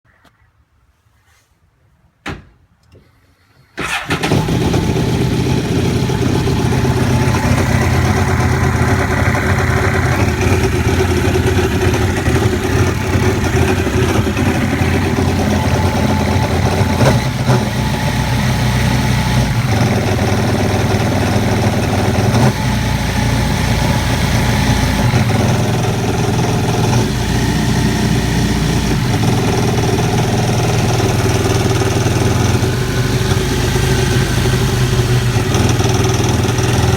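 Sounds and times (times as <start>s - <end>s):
jet ski engine idling: 3.9s - 36.9s.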